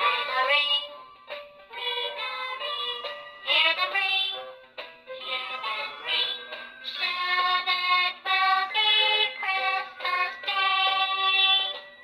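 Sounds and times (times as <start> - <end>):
childlike voice singing over music: 0.0 - 1.1, 1.7 - 4.4, 5.2 - 12.0.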